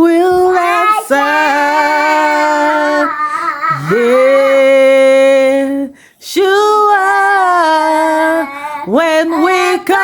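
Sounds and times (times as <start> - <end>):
woman singing gospel song: 0.0 - 3.1, 3.7 - 10.0.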